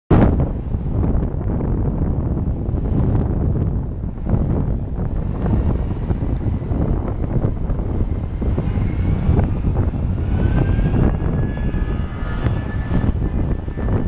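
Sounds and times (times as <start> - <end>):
jet engines at takeoff power: 0.1 - 14.0.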